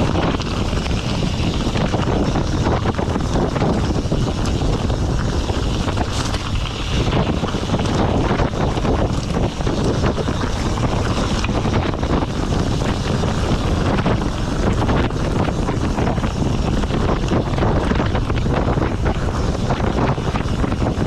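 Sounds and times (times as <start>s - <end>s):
bike rattling on loose rocks: 0.0s - 21.0s
wind buffeting microphone: 0.0s - 21.0s.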